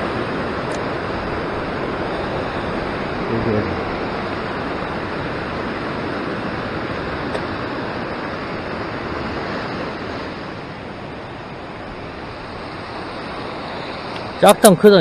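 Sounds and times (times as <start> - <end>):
ocean surf over rocks: 0.0 - 15.0.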